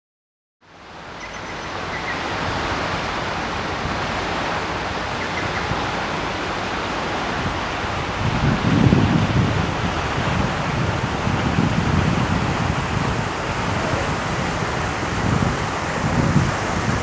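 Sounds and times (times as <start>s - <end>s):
floodwater rushing: 0.6s - 17.0s.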